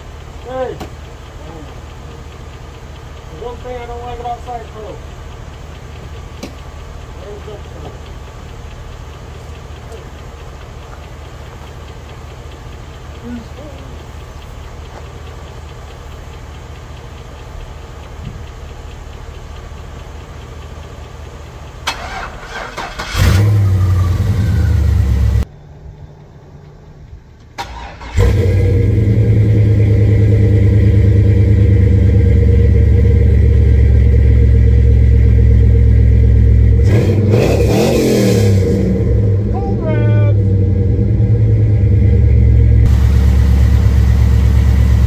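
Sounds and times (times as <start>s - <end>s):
car engine cranking and running: 0.0s - 45.0s
low engine hum: 0.0s - 45.0s.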